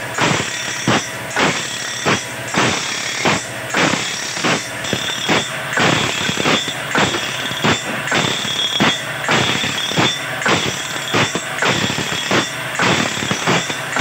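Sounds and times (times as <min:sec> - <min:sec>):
grinding wheel on steel blade: 0:00.0 - 0:14.0
machine motor running: 0:00.0 - 0:14.0.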